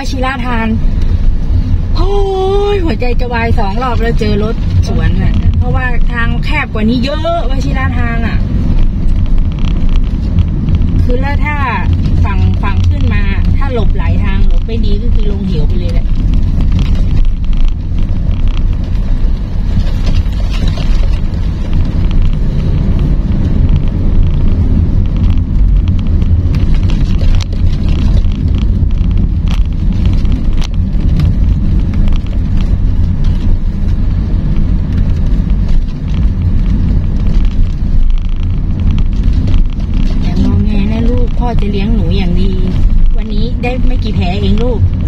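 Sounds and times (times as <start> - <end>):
low rumble of tyres and engine: 0.0 - 45.0.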